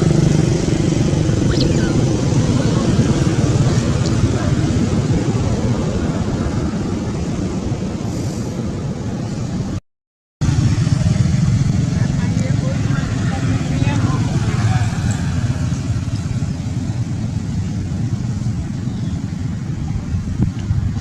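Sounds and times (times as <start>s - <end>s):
low road traffic engine noise: 0.0s - 9.8s, 10.4s - 21.0s.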